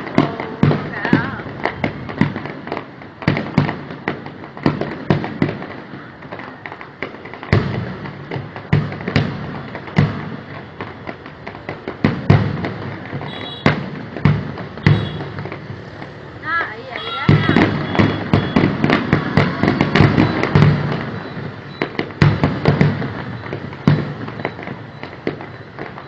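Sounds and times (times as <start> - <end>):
fireworks bangs and thuds: 0.0 - 26.0
fireworks crackling: 0.0 - 26.0.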